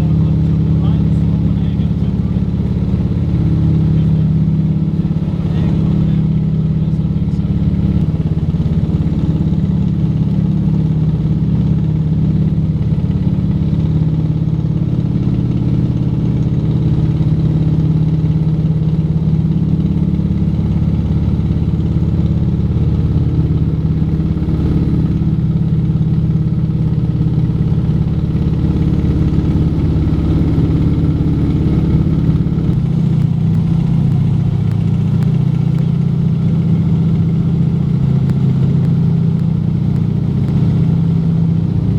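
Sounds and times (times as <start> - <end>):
aircraft engines droning: 0.0 - 41.9.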